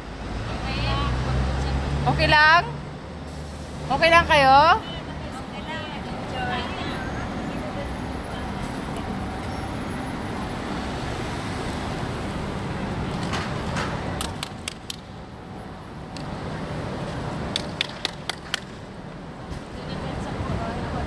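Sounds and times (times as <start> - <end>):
city road traffic: 0.0 - 21.0.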